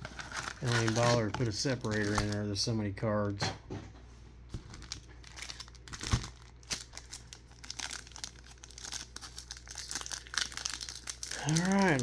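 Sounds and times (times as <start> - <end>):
wrapper tearing open: 0.0 - 2.4, 4.7 - 12.0
card pack wrappers crinkling: 0.0 - 2.6, 4.6 - 12.0.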